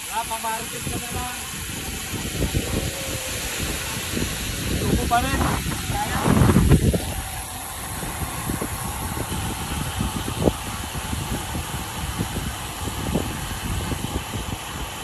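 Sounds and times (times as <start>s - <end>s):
wind and road rumble: 1.4s - 15.0s.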